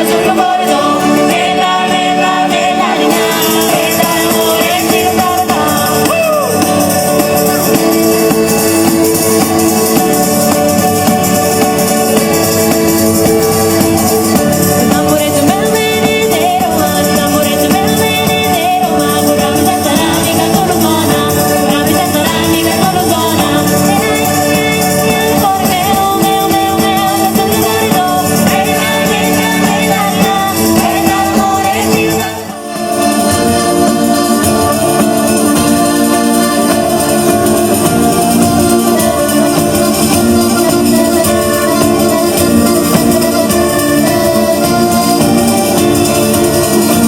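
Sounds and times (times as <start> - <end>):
guitar: 0.0 - 47.0
person singing: 0.0 - 47.0.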